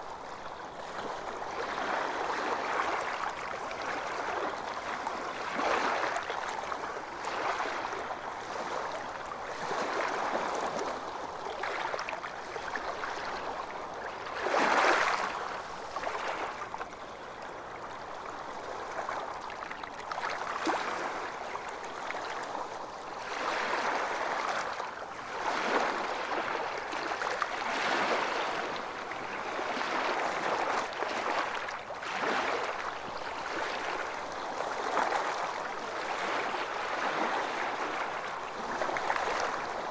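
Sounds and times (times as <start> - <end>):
water lapping in small waves: 0.0 - 39.9.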